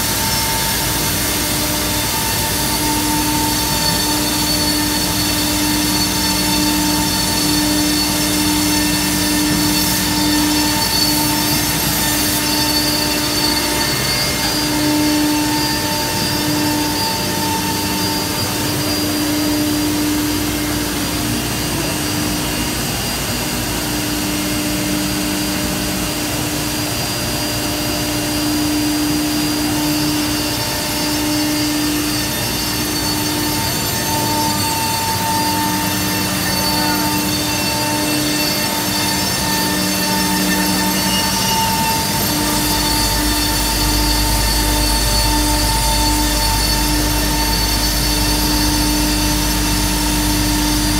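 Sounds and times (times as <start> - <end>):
router machine humming and whining: 0.0 - 50.9.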